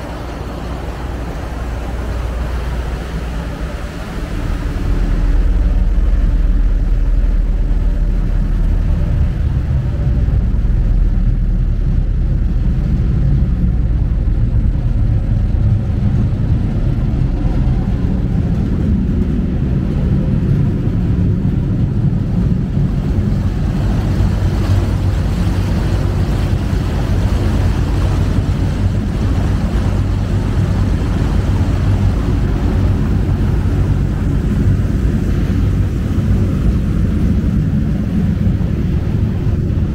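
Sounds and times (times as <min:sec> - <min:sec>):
churning water: 0:00.0 - 0:39.9
ship engines rumbling: 0:00.0 - 0:39.9
wind rushing: 0:00.0 - 0:39.9.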